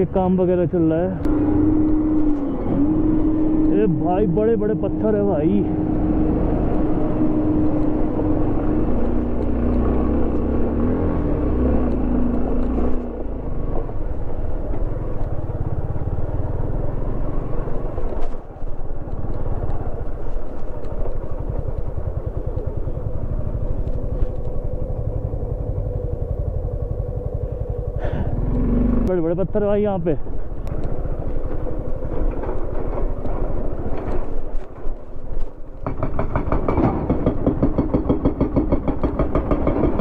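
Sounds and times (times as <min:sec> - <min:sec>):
motorcycle engine at low revs: 0:00.8 - 0:40.0.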